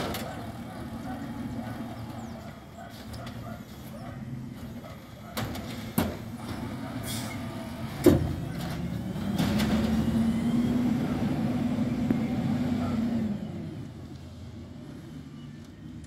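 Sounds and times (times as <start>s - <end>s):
truck engine droning: 0.0s - 16.0s.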